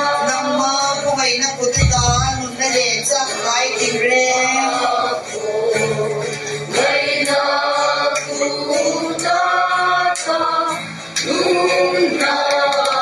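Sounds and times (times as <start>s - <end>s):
acoustic guitar: 0.0s - 13.0s
group of people singing: 0.0s - 13.0s
woman singing through loudspeaker: 0.0s - 13.0s.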